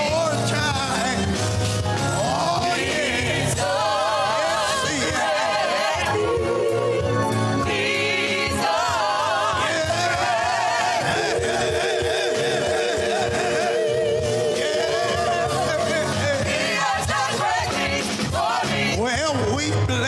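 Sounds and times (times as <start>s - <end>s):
organ and keyboard: 0.0s - 20.0s.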